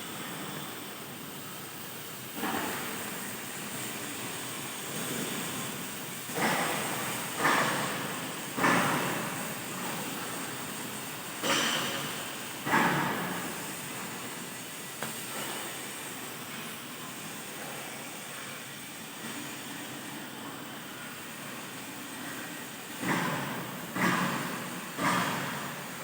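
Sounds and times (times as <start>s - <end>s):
cutting machine steady hiss: 0.0s - 26.0s.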